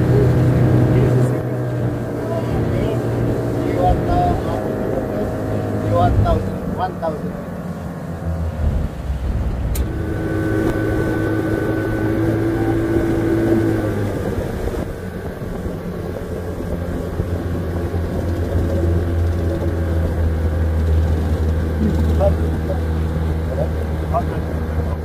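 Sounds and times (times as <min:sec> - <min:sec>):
motorboat engine drone: 0:00.0 - 0:25.0.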